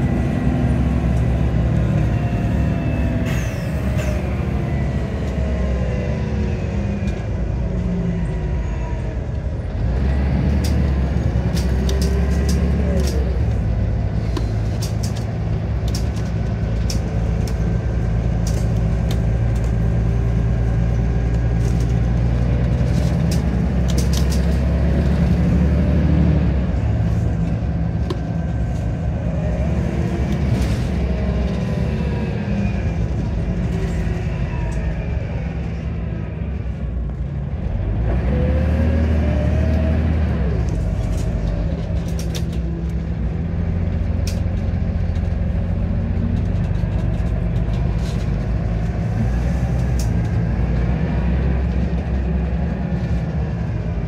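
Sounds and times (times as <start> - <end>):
bus engine from inside cabin: 0.0 - 54.0.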